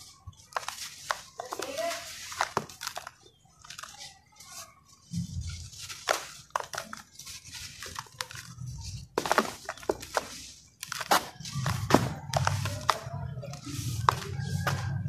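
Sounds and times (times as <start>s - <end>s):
crumbling dry chunks crunching: 0.0s - 15.0s.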